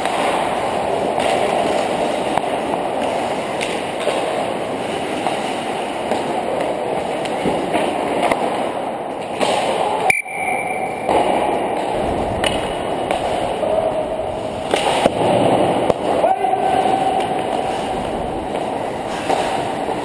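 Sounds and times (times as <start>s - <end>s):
hockey stick and puck clacks: 0.0s - 20.0s
skate blades on ice: 0.0s - 20.0s.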